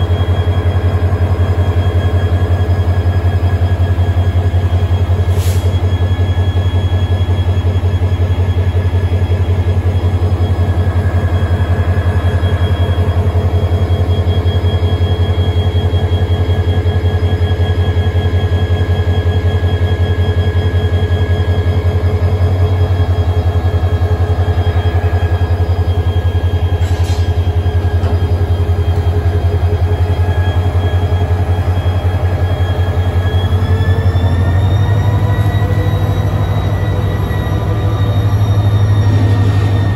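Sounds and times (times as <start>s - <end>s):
locomotive diesel engine throbbing: 0.0s - 39.9s
steady high whine: 0.0s - 39.9s.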